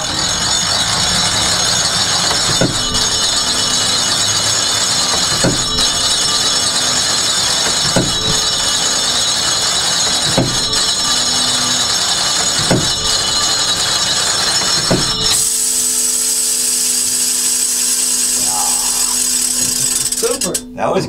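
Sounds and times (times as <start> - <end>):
loud steady hiss: 0.0 - 20.8
clock bell striking: 0.0 - 21.0.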